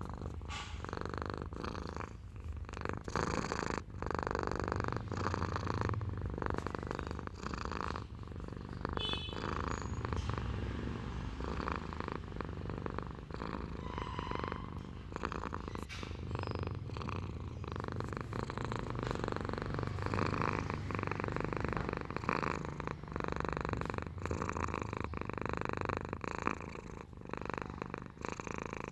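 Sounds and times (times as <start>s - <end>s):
cat purring: 0.0s - 28.9s.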